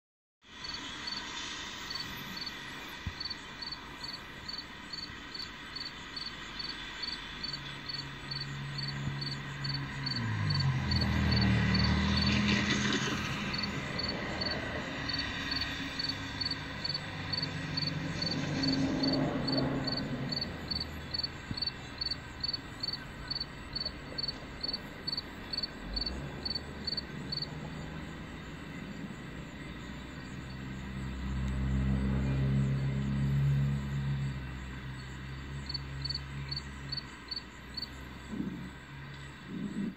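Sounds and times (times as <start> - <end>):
cricket chirping: 0.6 - 1.2, 1.8 - 39.9
low engine rumble: 1.9 - 39.9.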